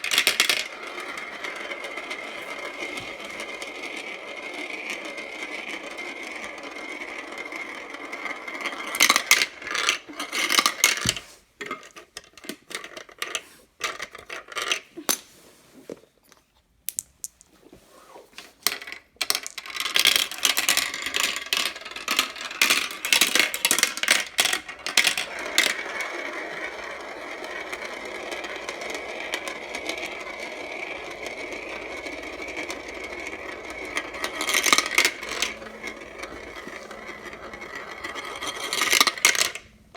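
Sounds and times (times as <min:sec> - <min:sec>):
marbles rolling on a track: 0:00.0 - 0:14.8, 0:18.4 - 0:39.9
marbles clicking and clacking: 0:00.0 - 0:15.1, 0:16.9 - 0:17.5, 0:18.6 - 0:39.7.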